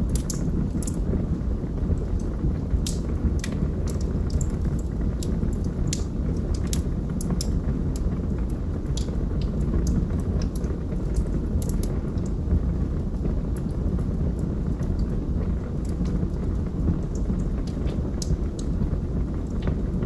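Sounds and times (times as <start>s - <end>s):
low rumble of flames: 0.0s - 20.0s
wood fire popping and snapping: 0.0s - 20.0s.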